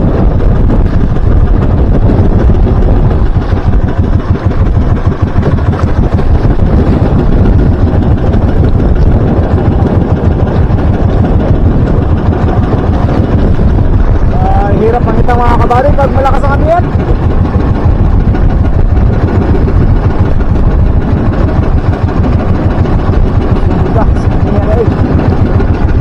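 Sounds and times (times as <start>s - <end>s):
boat engine idling: 0.0s - 26.0s
water splashing along hull: 0.0s - 26.0s.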